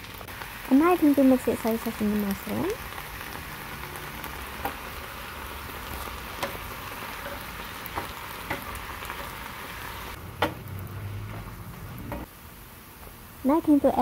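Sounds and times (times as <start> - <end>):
mushrooms sizzling in a frying pan: 0.0 - 14.0.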